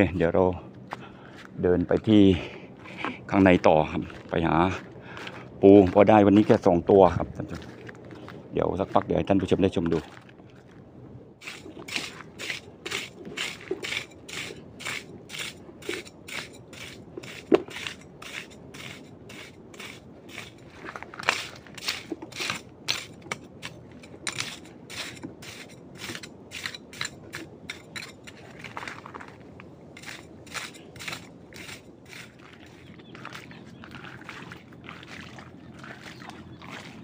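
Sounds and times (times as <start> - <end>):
footsteps walking: 0.7 - 18.6, 19.9 - 26.3, 27.8 - 37.0.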